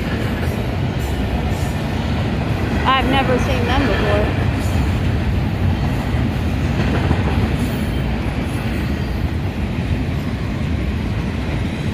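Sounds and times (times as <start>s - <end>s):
freight train wheels rumbling: 0.0s - 11.9s.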